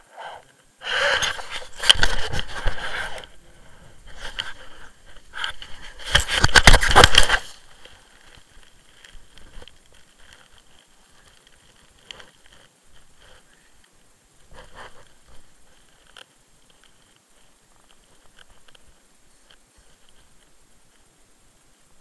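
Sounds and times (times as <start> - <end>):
clothing rustling on microphone: 0.8 - 22.0.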